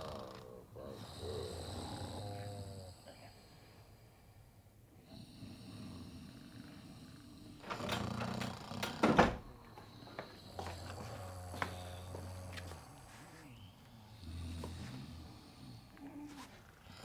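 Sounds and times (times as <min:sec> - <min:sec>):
man snoring: 0:00.0 - 0:04.0, 0:05.0 - 0:17.0.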